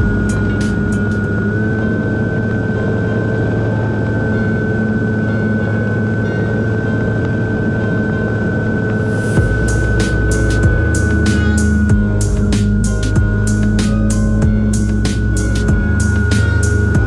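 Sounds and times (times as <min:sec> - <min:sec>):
model plane motor whine: 0:00.0 - 0:17.0.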